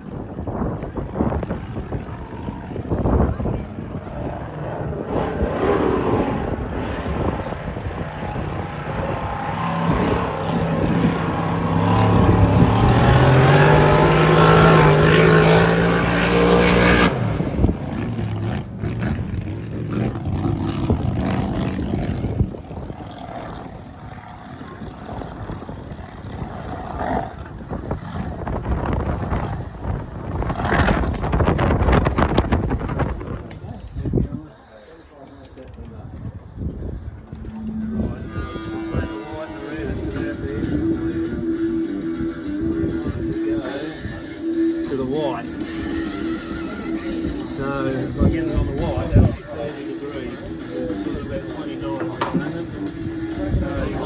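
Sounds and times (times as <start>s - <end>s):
wind noise: 0.0s - 34.6s, 35.6s - 44.4s, 45.5s - 49.8s, 50.4s - 54.0s
race boat engine accelerating: 0.2s - 34.0s, 36.6s - 54.0s.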